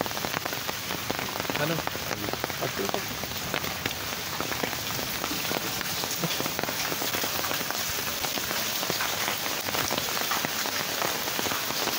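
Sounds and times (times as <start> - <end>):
rain pattering on hard surfaces: 0.0 - 11.9.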